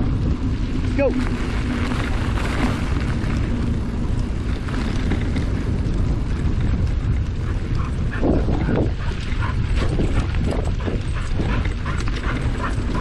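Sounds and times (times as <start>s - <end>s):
rolling noise on a trail: 0.0s - 13.0s
wind buffeting microphone: 0.0s - 13.0s.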